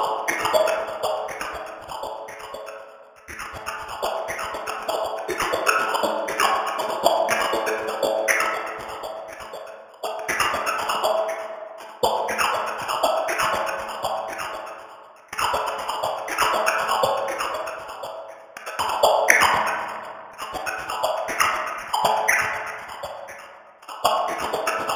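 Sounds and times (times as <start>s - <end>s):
rhythmic washing machine loop: 0.0s - 24.9s.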